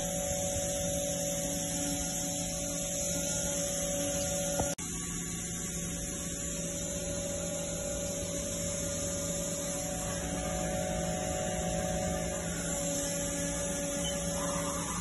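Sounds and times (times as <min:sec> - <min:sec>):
machine tool humming: 0:00.0 - 0:15.0.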